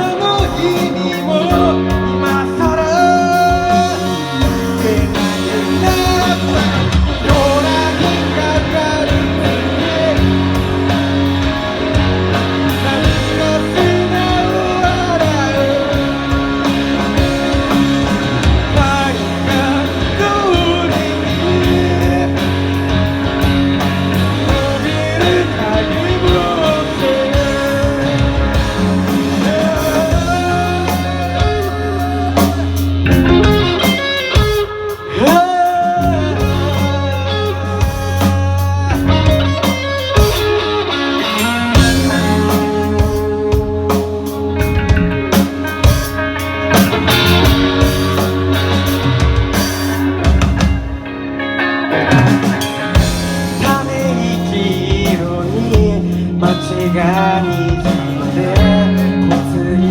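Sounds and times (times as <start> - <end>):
guitar with bent notes: 0.0 - 59.9
rock band music: 0.0 - 59.9.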